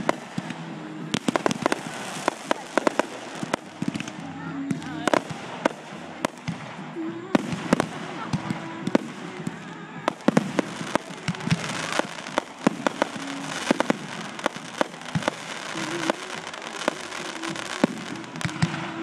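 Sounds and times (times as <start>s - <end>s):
crackling hiss: 0.0s - 19.0s
fireworks popping and banging: 0.0s - 19.0s.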